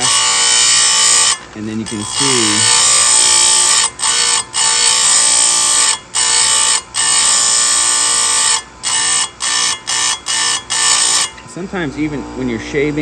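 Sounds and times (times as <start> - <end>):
grinder wheel whining on chain: 0.0 - 11.4.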